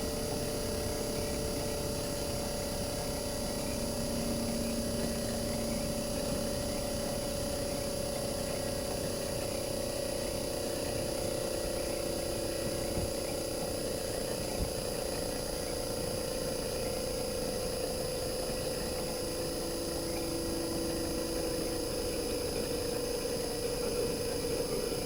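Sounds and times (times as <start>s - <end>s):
air conditioner compressor hum: 0.0s - 25.0s
faint high whine: 0.0s - 25.0s.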